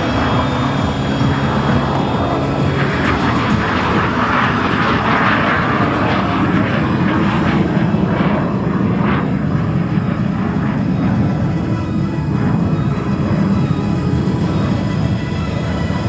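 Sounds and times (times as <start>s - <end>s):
jet aircraft passing by: 0.0s - 16.0s.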